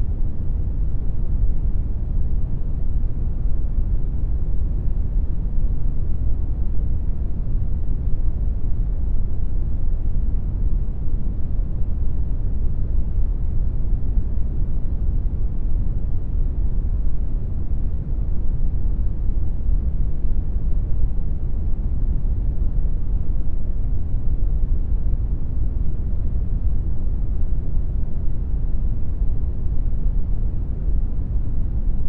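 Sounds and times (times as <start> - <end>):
deep rumbling brown noise: 0.0 - 32.0.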